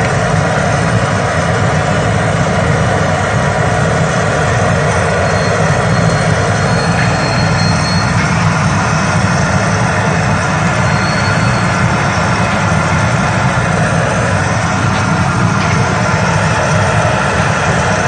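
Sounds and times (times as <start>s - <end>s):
low constant roar: 0.0s - 18.0s.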